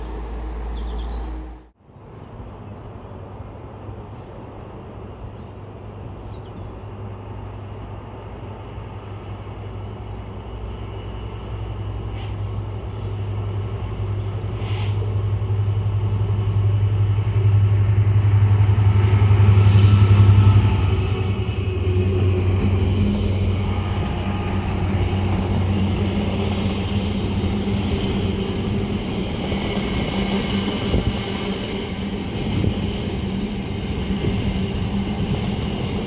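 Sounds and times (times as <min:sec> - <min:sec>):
diesel train engine drone: 0:00.0 - 0:02.1, 0:03.5 - 0:36.0.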